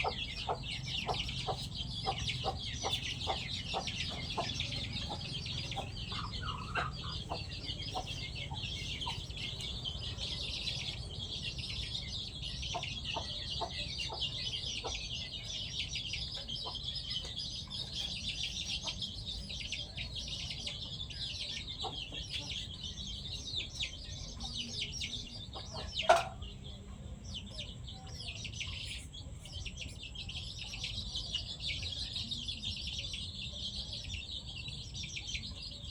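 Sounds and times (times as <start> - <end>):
chickens clucking: 0.0 - 35.9.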